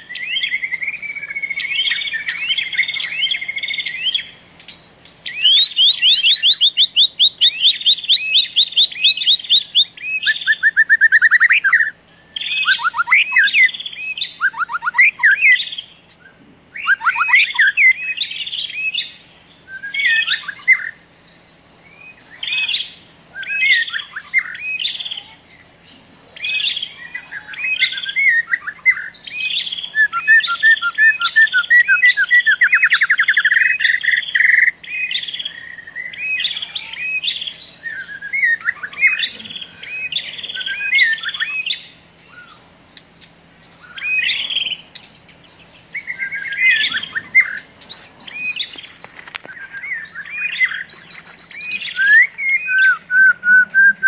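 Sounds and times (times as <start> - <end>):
songbird whistles and trills: 0.0 - 54.0.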